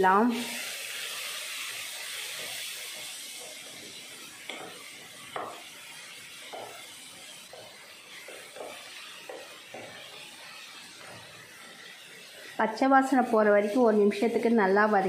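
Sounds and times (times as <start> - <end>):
food sizzling in oil: 0.0 - 15.0
wooden spatula scraping a pan: 0.6 - 14.4.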